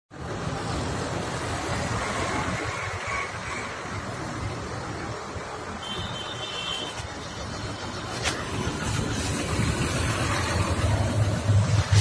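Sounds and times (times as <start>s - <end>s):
bus engine rumbling: 0.1s - 12.0s
traffic noise: 0.1s - 12.0s.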